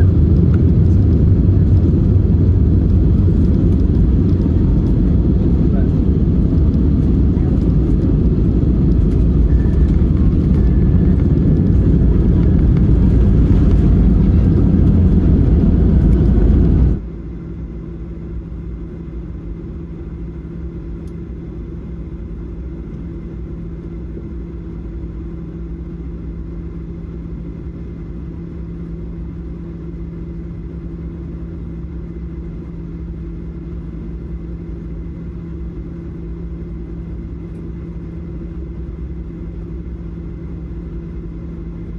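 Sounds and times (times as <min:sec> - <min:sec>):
airplane cabin engine drone: 0:00.0 - 0:41.9.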